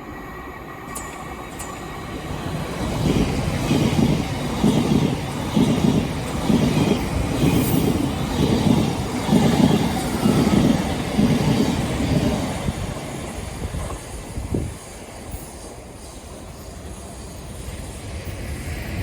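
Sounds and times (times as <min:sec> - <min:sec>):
train wheels clattering on track: 0:00.8 - 0:19.0.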